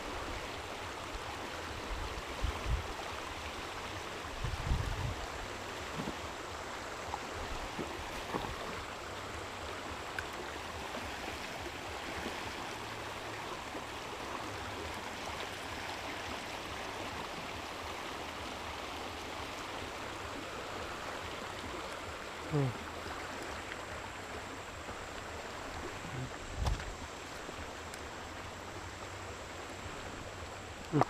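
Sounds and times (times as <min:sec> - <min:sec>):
water rushing from a dam: 0:00.0 - 0:31.0.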